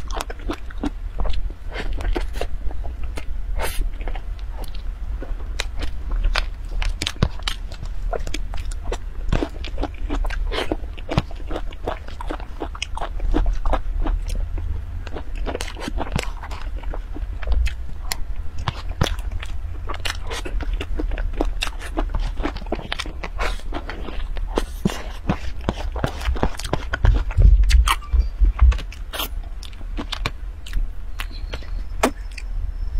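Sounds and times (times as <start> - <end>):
wet chewing and smacking: 0.0 - 32.5
low steady hum: 0.0 - 32.9.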